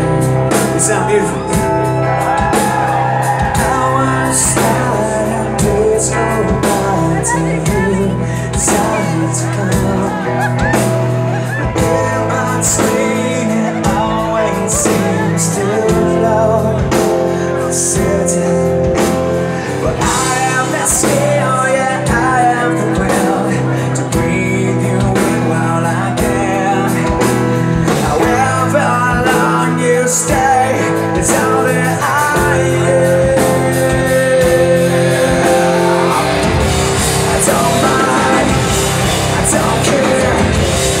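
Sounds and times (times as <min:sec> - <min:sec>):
drums: 0:00.0 - 0:41.0
electric guitar: 0:00.0 - 0:41.0
man singing: 0:00.0 - 0:41.0.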